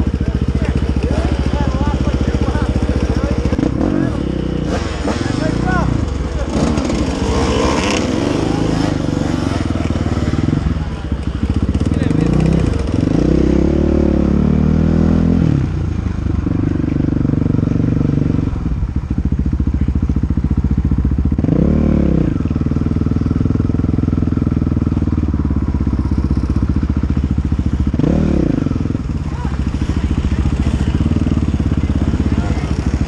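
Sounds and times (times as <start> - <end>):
dirt bike engine revving: 0.0 - 18.5, 21.3 - 33.0.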